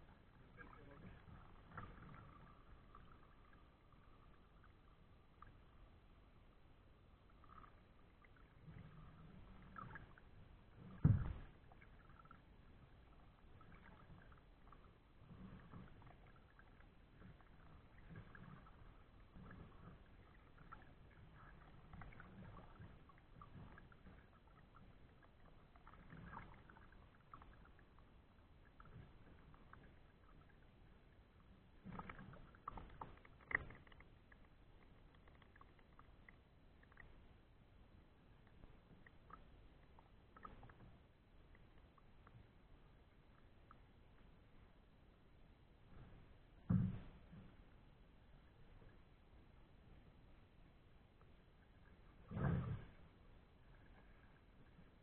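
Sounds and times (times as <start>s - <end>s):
paddle water splashes: 0.0s - 6.4s, 7.1s - 44.2s, 46.0s - 55.0s.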